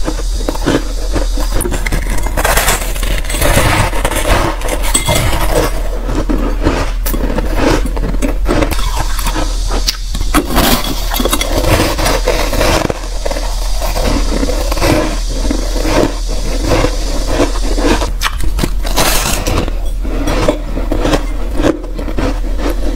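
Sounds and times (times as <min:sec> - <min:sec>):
ice being chewed: 0:00.0 - 0:22.9.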